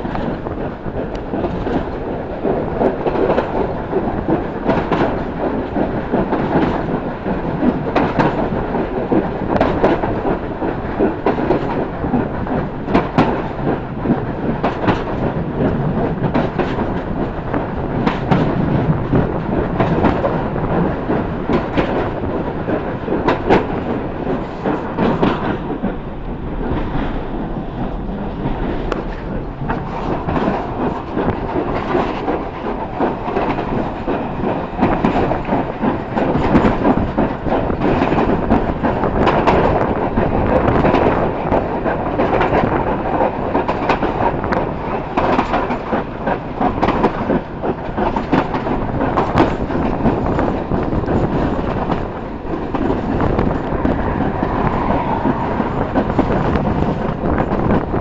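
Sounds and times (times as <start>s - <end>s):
train rumbling and rattling: 0.0s - 58.0s
wheels clacking over rail joints: 0.0s - 58.0s.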